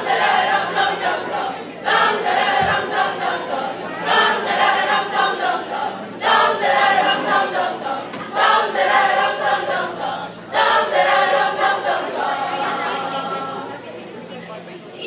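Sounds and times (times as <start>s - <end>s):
group chanting in unison: 0.0s - 13.8s.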